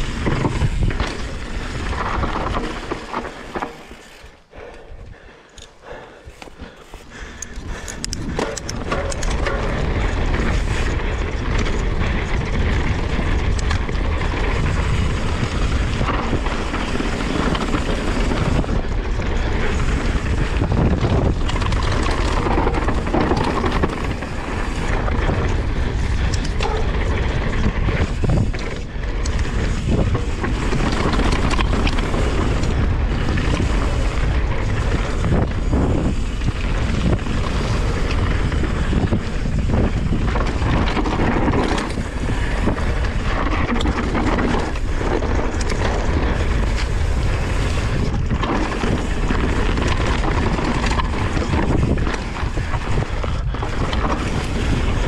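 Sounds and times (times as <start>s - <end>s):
bike rattling over bumps: 0.0s - 55.0s
bike tyres running over dirt: 0.0s - 55.0s
wind buffeting microphone: 0.0s - 55.0s.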